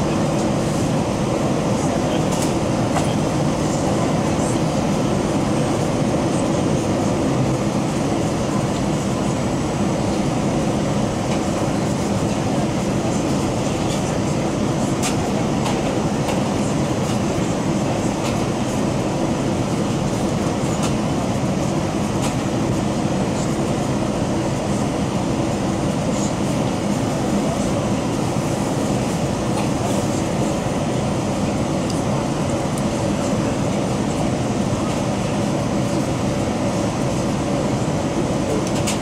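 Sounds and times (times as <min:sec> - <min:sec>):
jet engines droning: 0:00.0 - 0:39.0.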